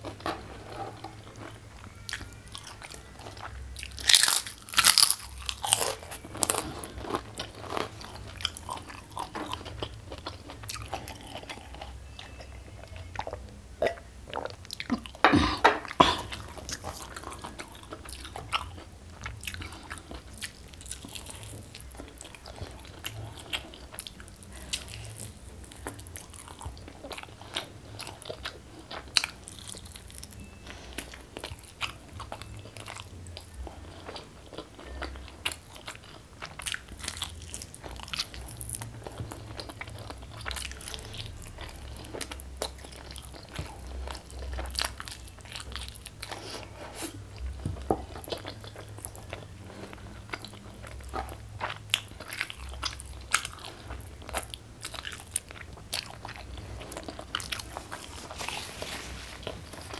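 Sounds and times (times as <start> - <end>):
person chewing chicken: 0.0 - 59.9.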